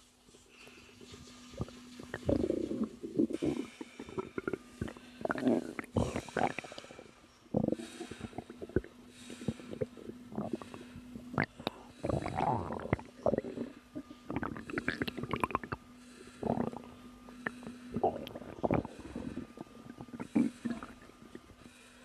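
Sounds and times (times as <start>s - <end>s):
stomach growling and gurgling: 1.5s - 21.6s.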